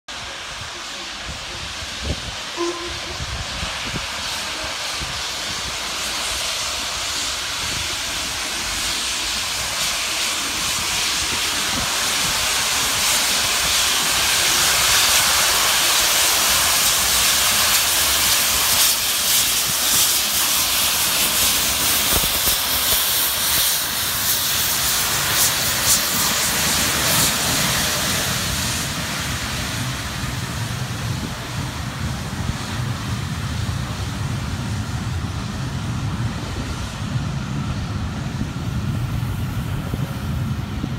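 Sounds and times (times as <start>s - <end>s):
steam hissing from locomotive: 0.1s - 40.9s.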